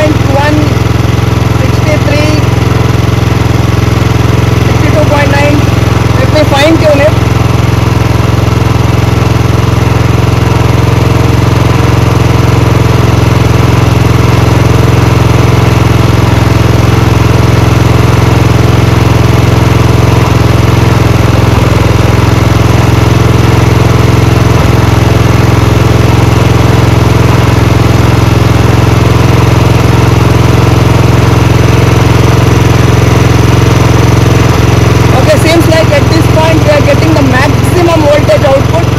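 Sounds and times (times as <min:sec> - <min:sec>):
motorcycle engine idling loudly: 0:00.0 - 0:38.9.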